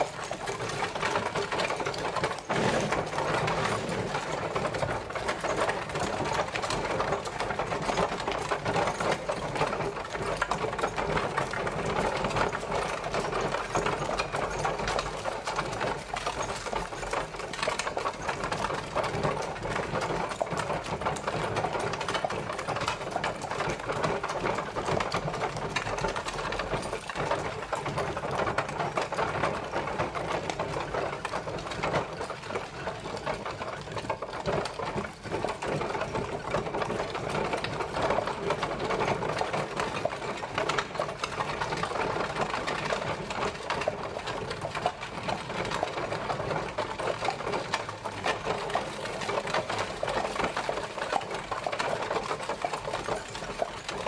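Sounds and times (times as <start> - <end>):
carriage rattling and clattering: 0.0 - 54.0.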